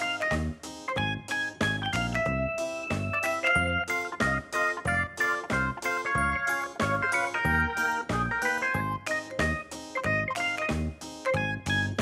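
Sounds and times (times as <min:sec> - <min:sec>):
plucked notes over bouncy bass beat: 0:00.0 - 0:12.0.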